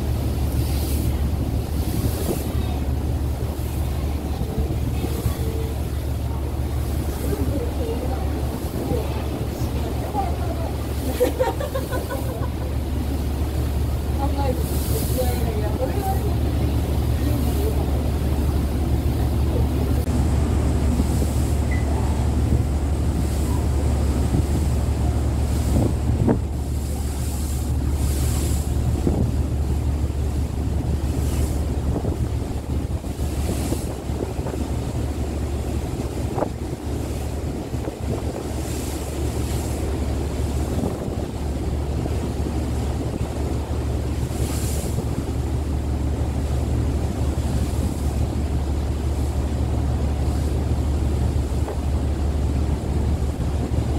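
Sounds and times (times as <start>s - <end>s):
wind gusts on microphone: 0.0s - 45.4s
ferry engines humming: 0.0s - 53.9s
rushing water: 0.0s - 53.9s.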